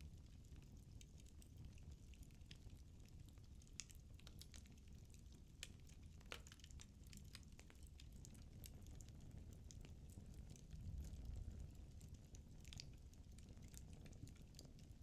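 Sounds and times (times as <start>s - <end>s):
low fire rumble: 0.0s - 15.0s.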